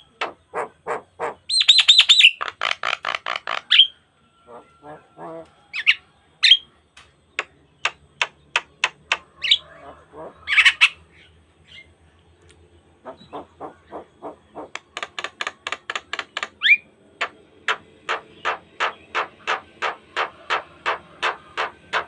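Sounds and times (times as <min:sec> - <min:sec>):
bird slurred whistles and squawks: 0:00.0 - 0:06.6, 0:07.4 - 0:11.9, 0:13.0 - 0:22.0.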